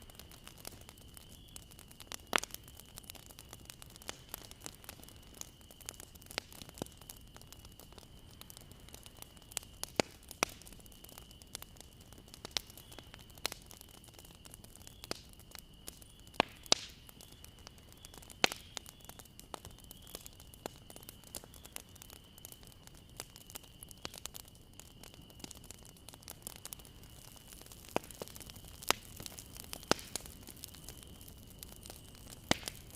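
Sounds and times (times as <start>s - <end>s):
bonfire crackling and popping: 0.0s - 32.9s.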